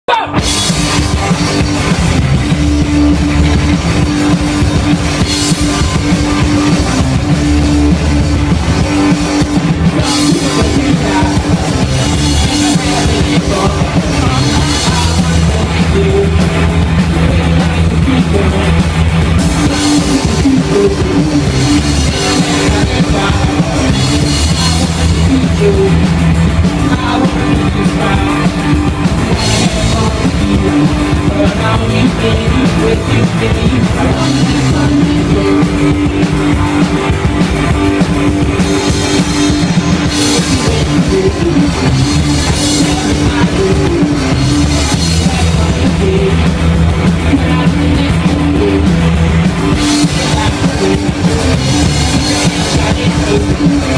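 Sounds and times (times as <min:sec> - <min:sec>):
loud electric guitars: 0:00.0 - 0:53.9
drum kit beat: 0:00.1 - 0:53.9.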